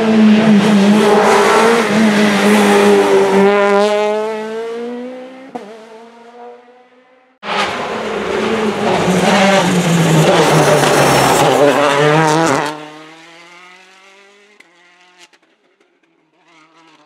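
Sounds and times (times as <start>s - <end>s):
rally car engine revving: 0.0s - 15.4s, 16.3s - 17.0s.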